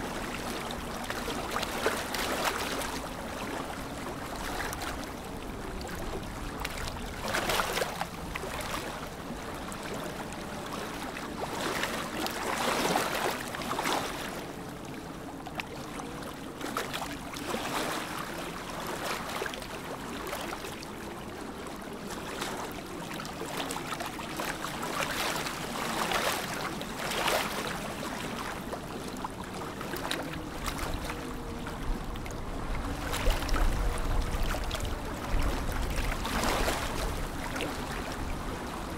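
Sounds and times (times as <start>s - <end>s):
lake water lapping: 0.0s - 38.9s.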